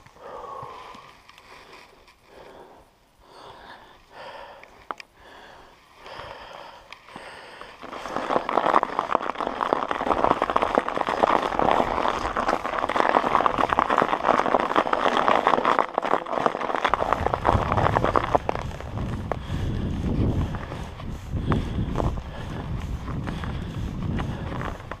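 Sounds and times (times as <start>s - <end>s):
bike tyres crunching over snow: 0.0s - 25.0s.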